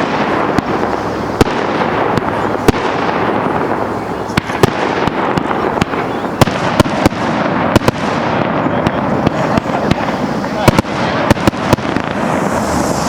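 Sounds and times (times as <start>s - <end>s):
crackling firework bursts: 0.0s - 13.0s
firework bangs: 0.0s - 13.0s.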